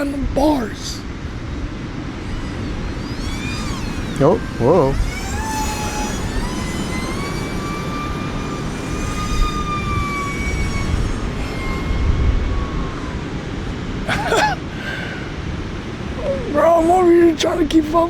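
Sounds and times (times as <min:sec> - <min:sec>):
electric motor and propeller whining: 0:00.0 - 0:18.0
wind rumble on microphone: 0:00.0 - 0:18.0.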